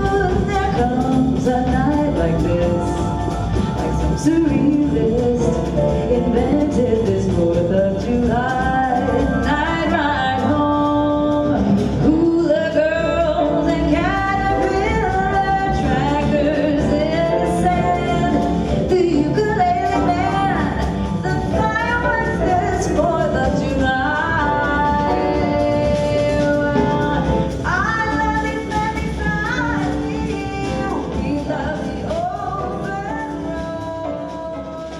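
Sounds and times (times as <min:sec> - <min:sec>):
jazz quartet playing: 0:00.0 - 0:34.9
woman singing jazz: 0:00.0 - 0:34.9.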